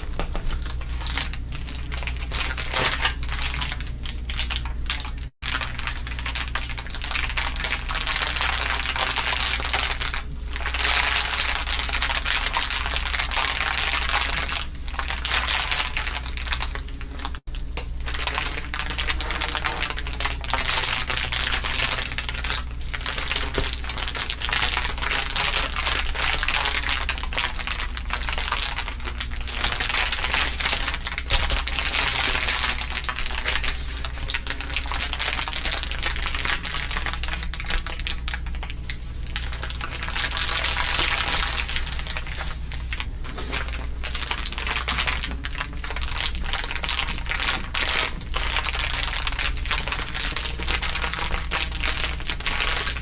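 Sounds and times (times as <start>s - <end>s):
dense crinkling crackle: 0.0s - 53.0s
steady low hum: 0.0s - 53.0s.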